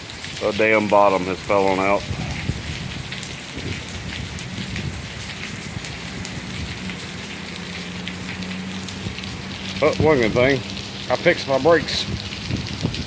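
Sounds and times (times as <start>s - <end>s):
heavy rain downpour: 0.0s - 13.0s
raindrops ticking close by: 0.0s - 13.0s.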